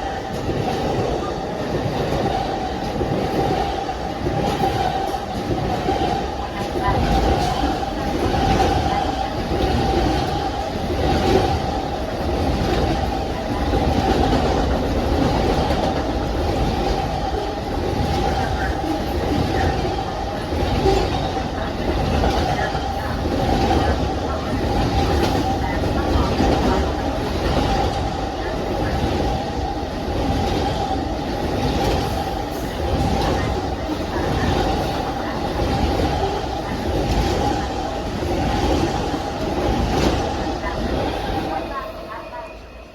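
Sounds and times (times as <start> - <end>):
train wheels rumbling on rail: 0.0 - 42.6.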